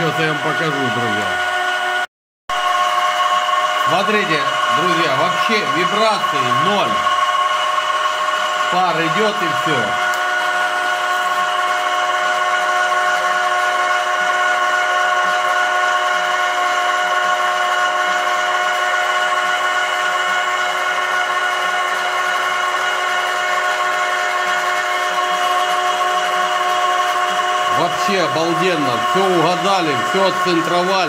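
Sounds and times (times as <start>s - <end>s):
oil press mechanical whine: 0.0s - 31.0s.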